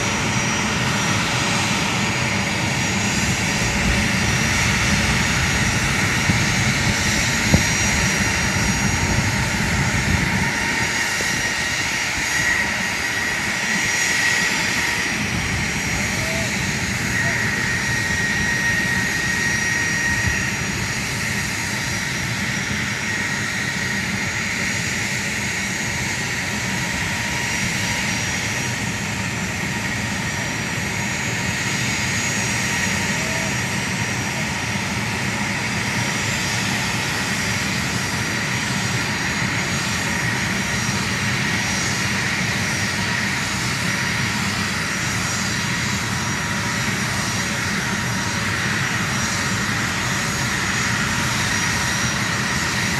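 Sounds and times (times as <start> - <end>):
jet engines whining and roaring: 0.0 - 52.9.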